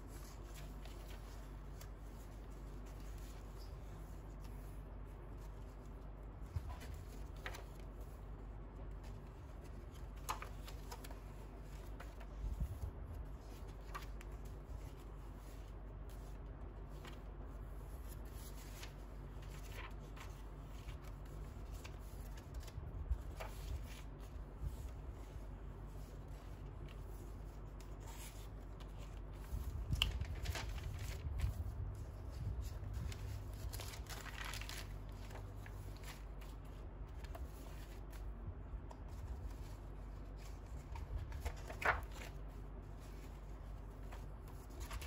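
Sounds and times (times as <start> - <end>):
paper pages rustling: 0.0 - 45.0.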